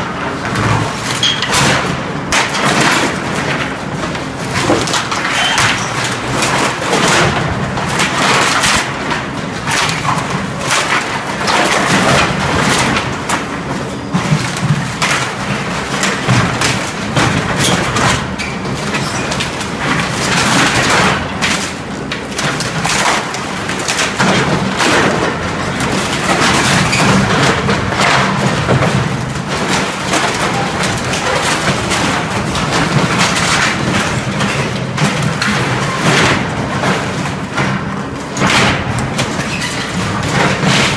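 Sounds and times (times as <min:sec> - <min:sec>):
wooden racking crashing and cracking: 0:00.0 - 0:40.9.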